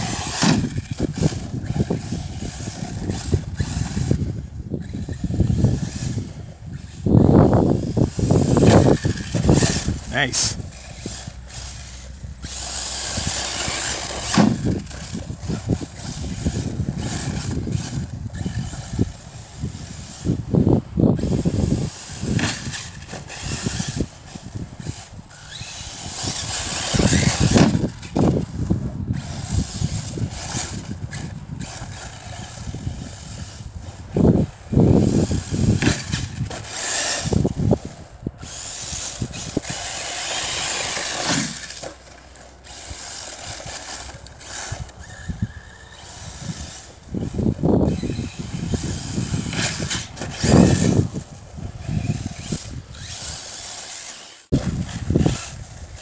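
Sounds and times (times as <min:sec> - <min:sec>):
gear chatter: 0:00.0 - 0:20.4, 0:21.1 - 0:56.0
electric motor whining: 0:00.0 - 0:56.0.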